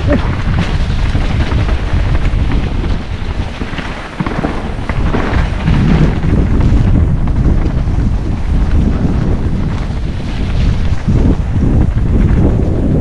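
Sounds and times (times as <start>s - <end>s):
wind rumbling over microphone: 0.0s - 13.0s.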